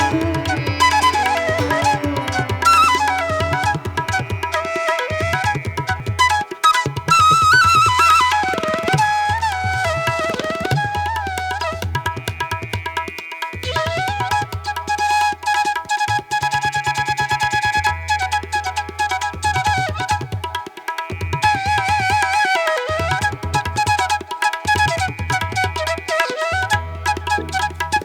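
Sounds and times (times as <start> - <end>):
flute-like melody: 0.0 - 13.0, 13.6 - 28.0
hand drums: 0.0 - 14.9, 19.5 - 28.0.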